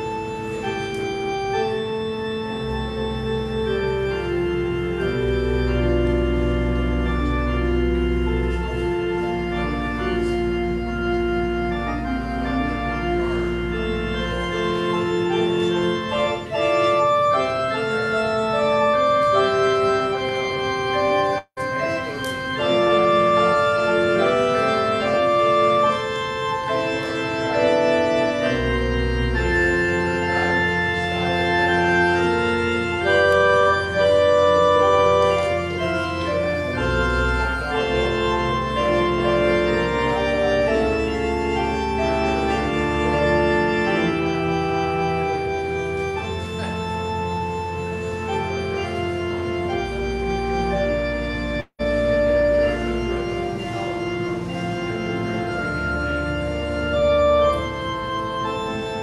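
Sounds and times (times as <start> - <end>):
church organ chords: 0.0 - 59.0
low organ pedal bass: 0.0 - 59.0.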